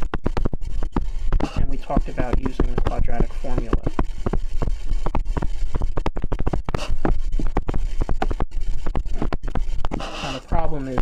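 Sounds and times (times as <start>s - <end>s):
stylus tapping and scratching screen: 0.0s - 11.0s.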